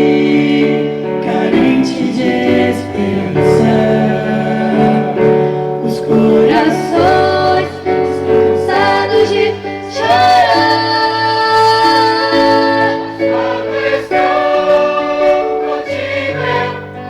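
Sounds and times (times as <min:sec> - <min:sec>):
choir singing gospel: 0:00.0 - 0:17.0
instrumental accompaniment: 0:00.0 - 0:17.0.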